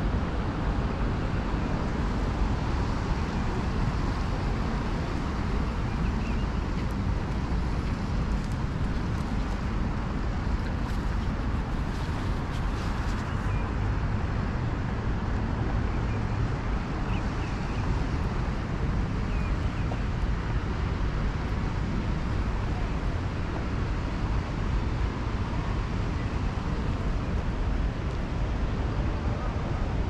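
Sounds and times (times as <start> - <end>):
city traffic rumble: 0.0 - 30.0.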